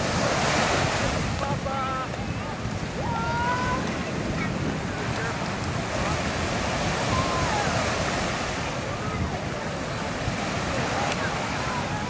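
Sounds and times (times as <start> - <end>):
small waves washing in shallows: 0.0 - 12.0
wind rumbling on microphone: 0.0 - 12.0.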